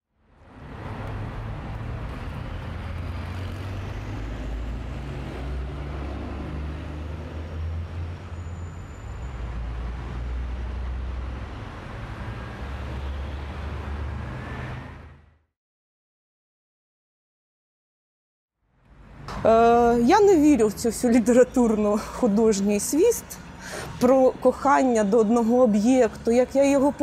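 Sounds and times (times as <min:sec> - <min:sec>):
passing road traffic rumble: 0:00.2 - 0:15.4, 0:18.7 - 0:27.0.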